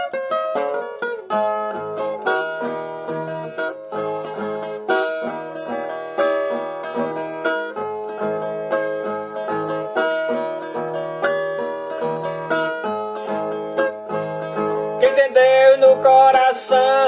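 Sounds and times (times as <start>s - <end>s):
plucked string instrument: 0.0s - 17.0s.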